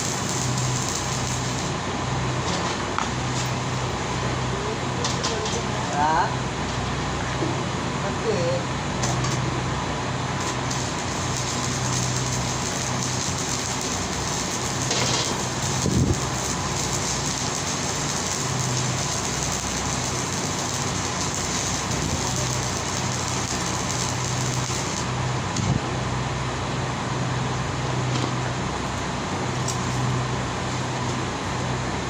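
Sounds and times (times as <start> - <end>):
machinery humming and hissing: 0.0 - 32.0.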